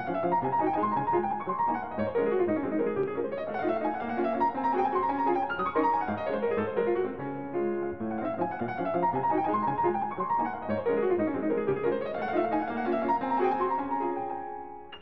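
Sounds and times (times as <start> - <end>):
piano music with quick runs: 0.0 - 15.0.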